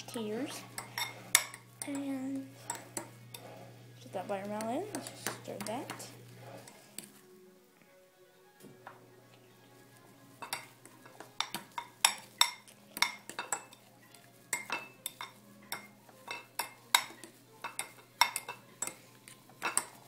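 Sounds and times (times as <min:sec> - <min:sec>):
utensil clinking against bowl: 0:00.0 - 0:03.6, 0:04.2 - 0:07.2, 0:10.4 - 0:20.0.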